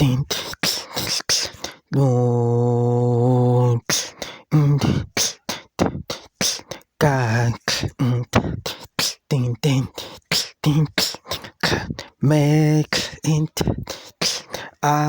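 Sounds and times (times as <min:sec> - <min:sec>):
person beatboxing: 0:00.0 - 0:02.2, 0:03.2 - 0:15.0.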